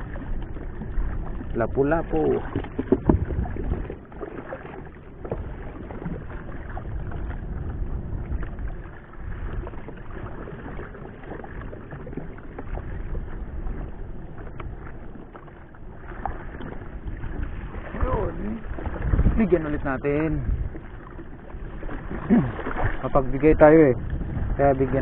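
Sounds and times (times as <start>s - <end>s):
water lapping against boat: 0.0s - 25.0s.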